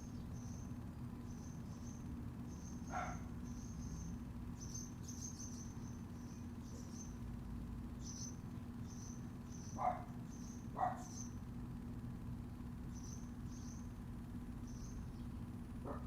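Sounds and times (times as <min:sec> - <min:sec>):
crickets chirping: 0:00.0 - 0:11.6, 0:12.5 - 0:15.2
steady low hum: 0:00.0 - 0:16.0.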